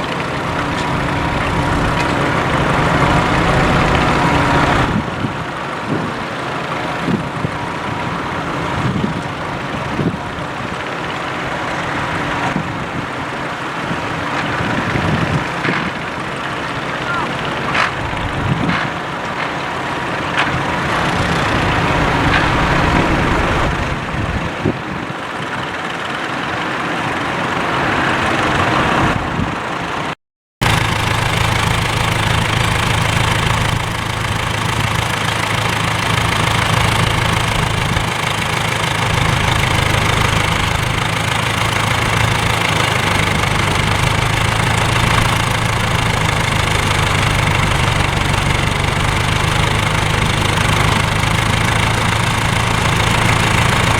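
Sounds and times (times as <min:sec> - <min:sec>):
tractor engines running: 0:00.0 - 0:53.9.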